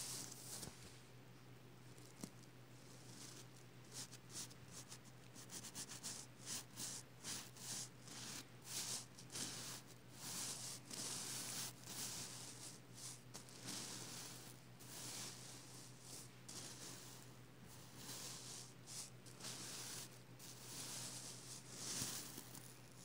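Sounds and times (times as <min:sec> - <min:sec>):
hand brushing sequins: 0:00.0 - 0:00.9, 0:02.0 - 0:23.0.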